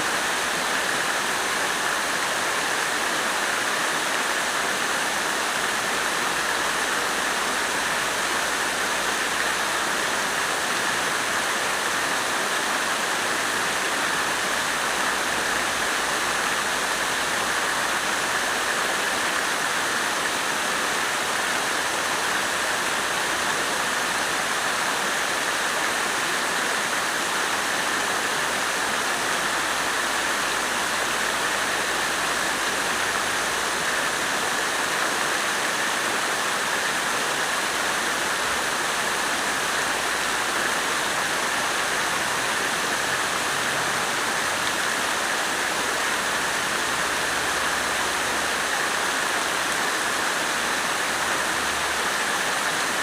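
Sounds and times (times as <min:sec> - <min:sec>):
water fountain splashing: 0:00.0 - 0:53.0.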